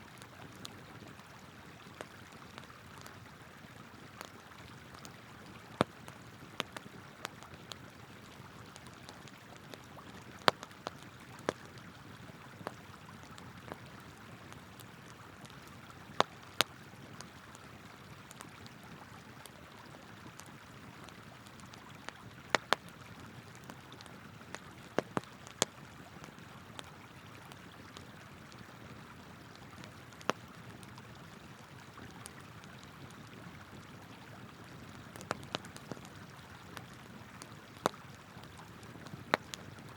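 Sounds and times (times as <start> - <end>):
wood fire crackling: 0.0 - 34.0, 34.6 - 39.9.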